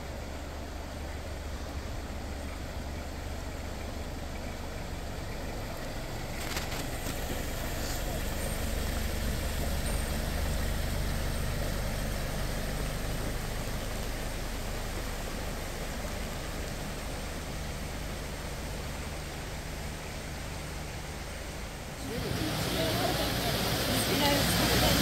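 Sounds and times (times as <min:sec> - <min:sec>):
truck engine hum: 0:00.0 - 0:25.0.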